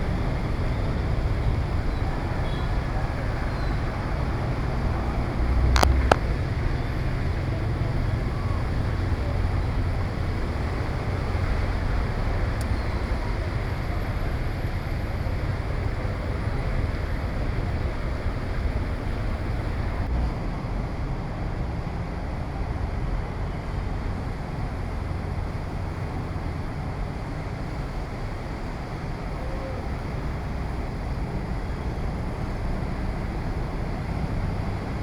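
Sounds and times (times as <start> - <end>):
heavy rain: 0.0 - 21.1, 24.5 - 35.0
wind rumbling on microphone: 0.0 - 35.0.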